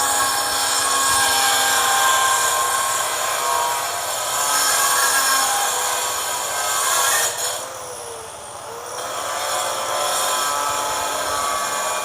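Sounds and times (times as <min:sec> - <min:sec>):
power cutter grinding metal: 0:00.0 - 0:12.0.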